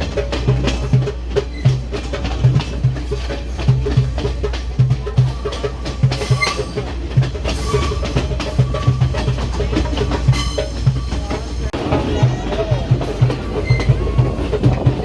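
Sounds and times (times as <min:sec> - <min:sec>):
train rumbling: 0:00.0 - 0:15.0
train wheels clacking on rail joints: 0:00.0 - 0:15.0.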